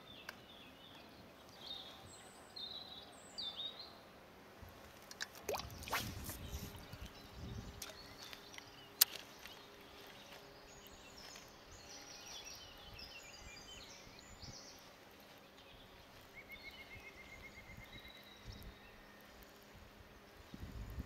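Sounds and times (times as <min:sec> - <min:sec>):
songbird chirps and trill: 0:00.0 - 0:04.2, 0:05.2 - 0:20.8.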